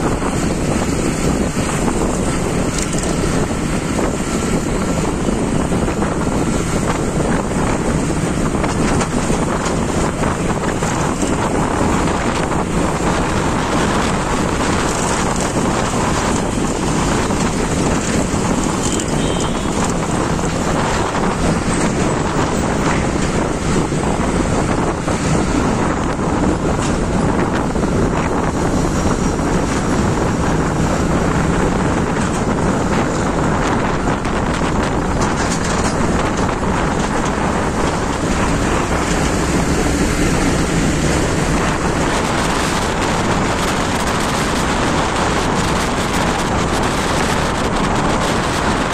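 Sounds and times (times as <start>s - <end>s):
road noise: 0.0s - 48.9s
traffic noise: 0.0s - 48.9s
wind rushing over microphone: 0.0s - 48.9s.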